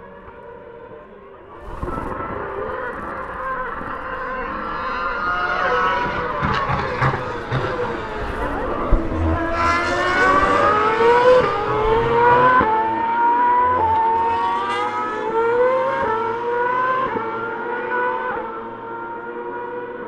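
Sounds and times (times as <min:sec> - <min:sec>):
racing engines screaming: 0:02.1 - 0:19.8.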